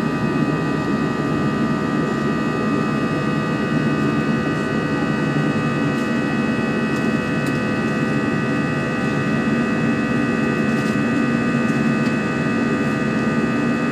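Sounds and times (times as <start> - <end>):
jet engine cabin drone: 0.0 - 13.9
jet engine high whine: 0.0 - 13.9.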